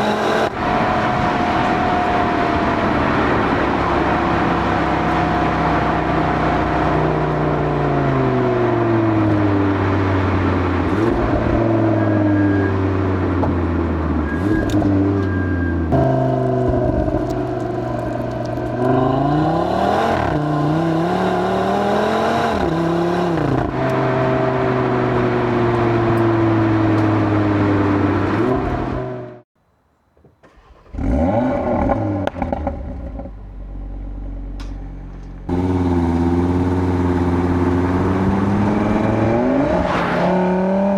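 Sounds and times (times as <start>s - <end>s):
car engine revving through gears: 0.0s - 29.4s, 30.4s - 40.9s.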